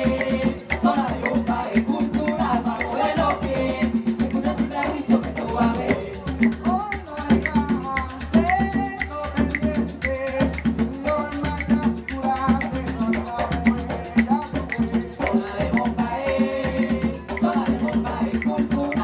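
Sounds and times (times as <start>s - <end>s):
hand drums playing: 0.0s - 19.0s
maracas shaking: 0.0s - 19.0s
voices singing: 0.0s - 19.0s.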